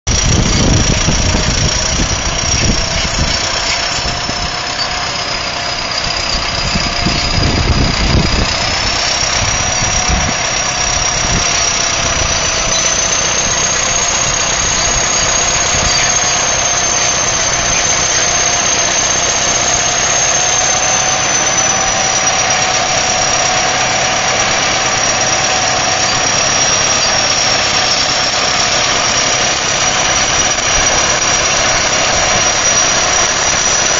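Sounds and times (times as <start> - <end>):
bulldozer diesel engine under load: 0.0 - 33.9
heavy low engine pulses: 0.1 - 33.9
lower whine: 0.1 - 33.9
thin high-pitched whine: 0.1 - 33.9.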